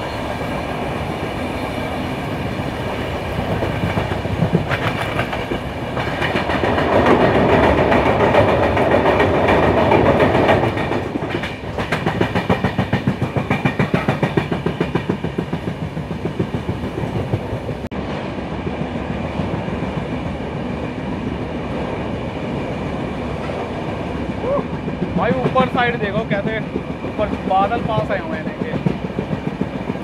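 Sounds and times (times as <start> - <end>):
train rushing noise: 0.0 - 30.0
train wheels clickety-clack: 2.2 - 30.0.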